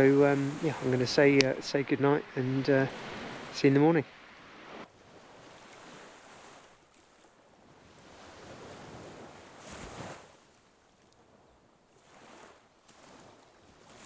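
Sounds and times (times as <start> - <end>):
faint sea waves washing: 0.0 - 14.0.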